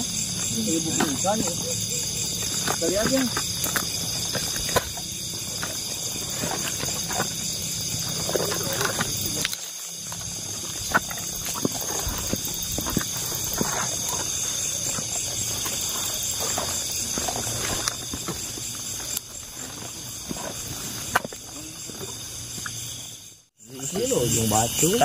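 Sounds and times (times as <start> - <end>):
crickets trilling: 0.0 - 25.0
rustles through vegetation: 0.1 - 23.0.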